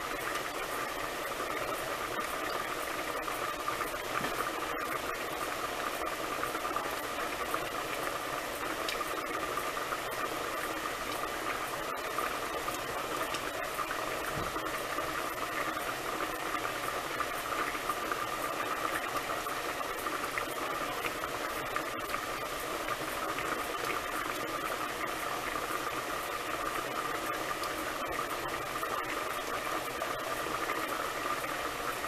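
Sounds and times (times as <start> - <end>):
pot of broth boiling: 0.0 - 32.0.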